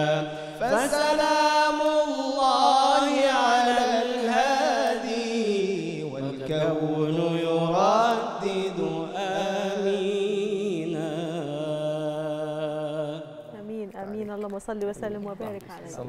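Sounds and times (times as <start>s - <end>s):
man singing devotional chant: 0.0s - 13.5s.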